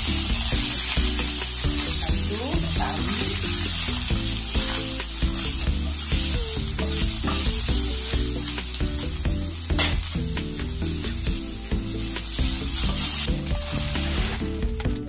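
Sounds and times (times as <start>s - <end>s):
spatula scraping pan: 0.0s - 14.6s
background music with melody: 0.0s - 15.0s
food sizzling in hot oil: 0.0s - 15.0s.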